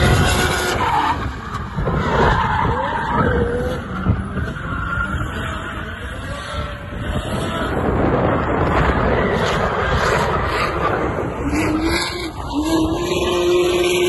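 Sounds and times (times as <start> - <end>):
car engines at high revs: 0.0 - 14.0
tyres skidding: 0.0 - 14.0.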